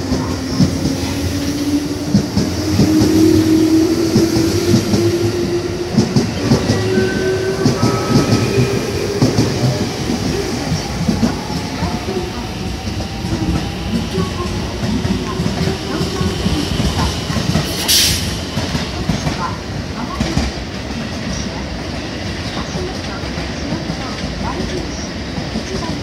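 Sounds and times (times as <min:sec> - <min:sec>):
train wheels clattering on track: 0:00.0 - 0:26.0.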